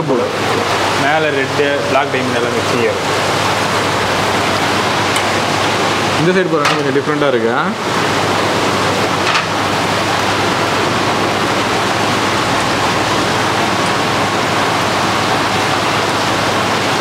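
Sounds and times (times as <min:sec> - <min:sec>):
rushing aerated water: 0:00.0 - 0:17.0.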